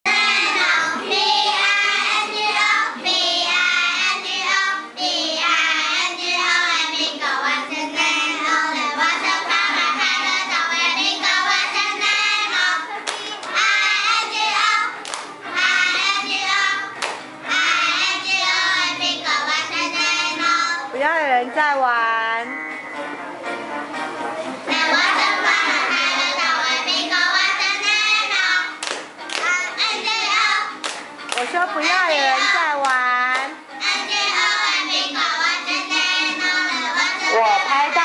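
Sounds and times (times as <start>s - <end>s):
girls singing together: 0.1s - 21.0s, 24.5s - 38.0s.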